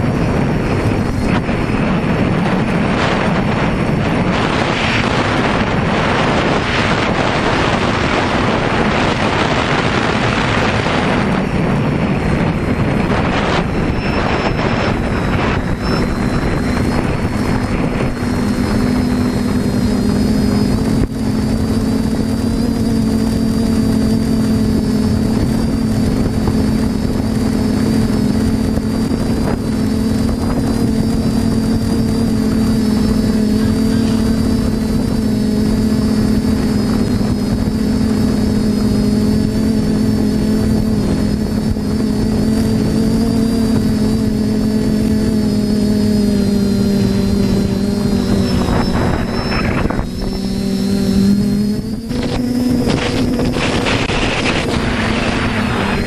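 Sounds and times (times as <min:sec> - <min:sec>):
drone propellers humming: 0:00.0 - 0:56.0.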